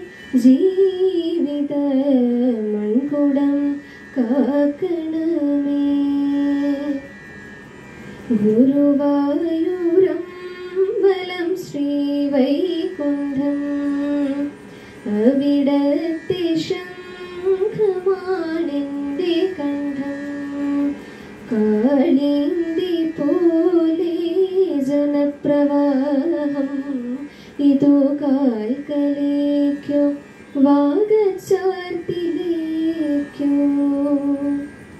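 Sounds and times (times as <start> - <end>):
woman singing: 0.0 - 7.2, 8.3 - 34.8.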